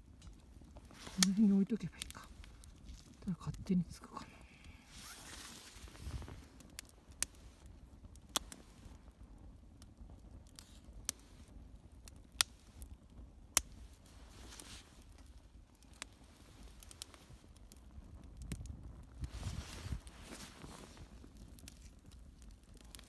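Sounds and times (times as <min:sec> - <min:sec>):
sharp pops of burning wood: 0:00.0 - 0:23.0
small wood fire crackling: 0:00.0 - 0:23.0.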